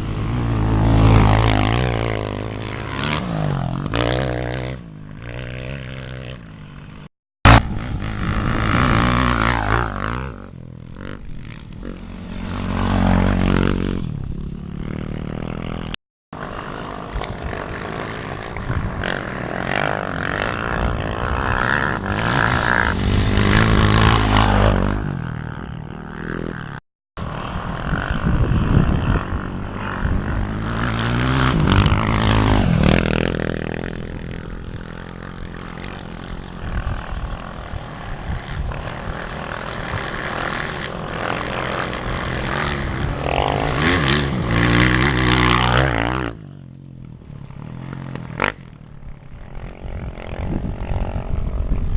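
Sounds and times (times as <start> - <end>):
off-road motorcycle engines revving: 0.0 - 51.9.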